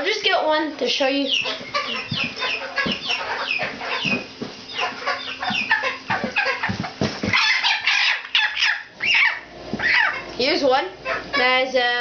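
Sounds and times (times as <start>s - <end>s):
chicks peeping and clucking: 0.0s - 12.0s.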